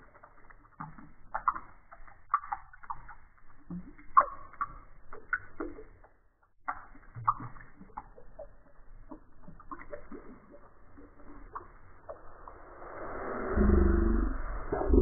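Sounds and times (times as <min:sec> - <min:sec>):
water drops plinking: 0:00.0 - 0:12.9.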